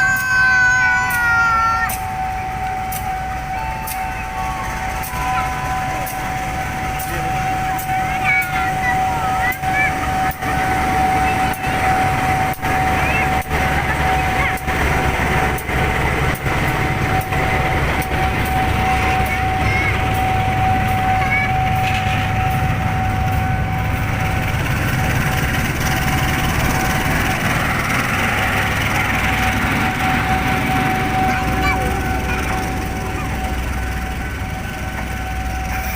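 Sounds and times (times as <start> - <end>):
continuous whine: 0.0 - 35.9
freight train rumbling: 0.0 - 35.9.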